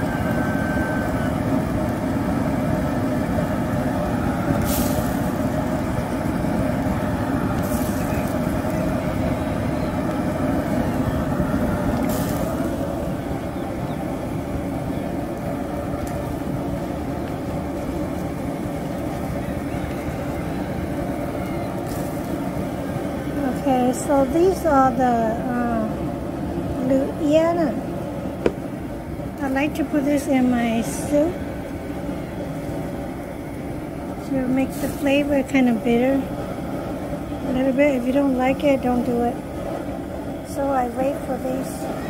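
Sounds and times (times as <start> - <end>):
gas burner roar: 0.0 - 42.0.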